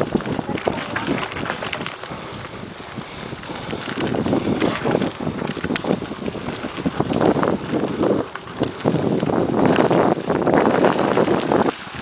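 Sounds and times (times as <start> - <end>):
bike rattling on bumpy trail: 0.0 - 12.0
wind buffeting microphone: 0.0 - 12.0.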